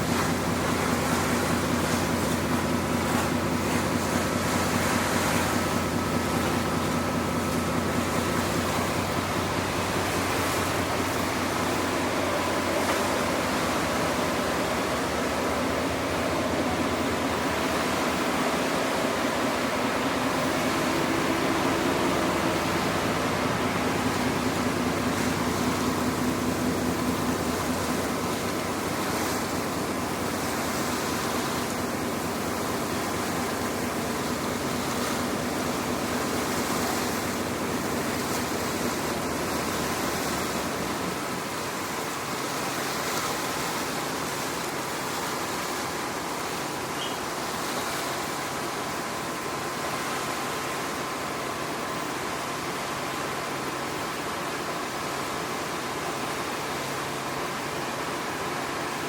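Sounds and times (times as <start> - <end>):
ferry engine hum: 0.0 - 59.0
water rushing along hull: 0.0 - 59.0.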